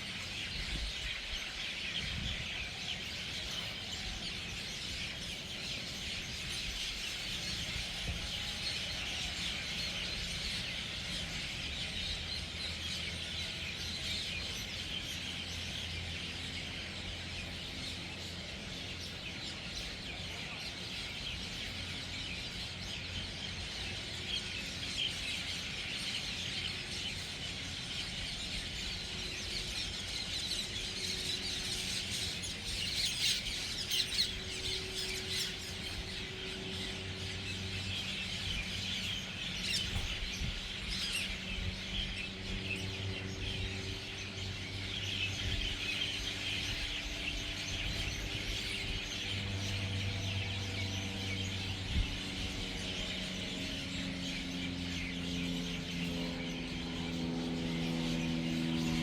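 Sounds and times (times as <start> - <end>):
flock of birds chattering: 0.0 - 59.0.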